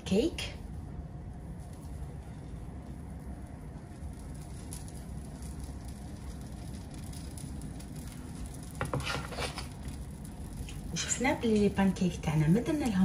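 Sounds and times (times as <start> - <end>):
low steady hum: 0.0 - 13.0
batter sizzling in frying pan: 1.4 - 13.0.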